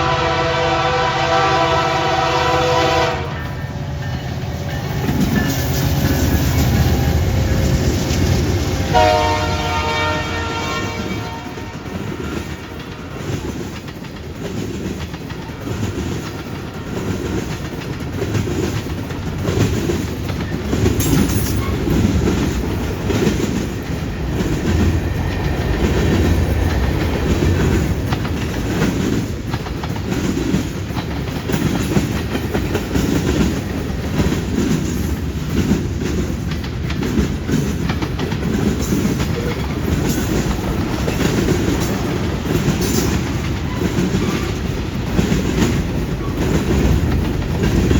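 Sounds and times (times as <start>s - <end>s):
freight train wheels clattering: 0.0s - 47.9s.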